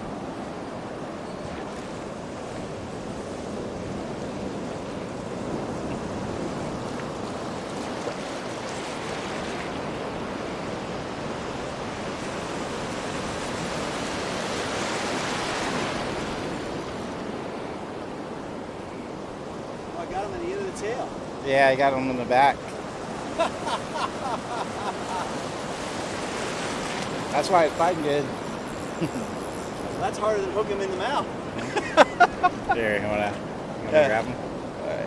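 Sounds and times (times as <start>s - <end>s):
surf washing over sand: 0.0s - 35.0s.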